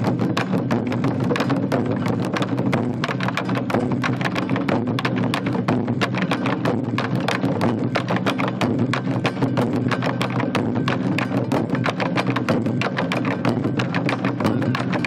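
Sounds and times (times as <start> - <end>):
large drums beaten rapidly: 0.0 - 15.0.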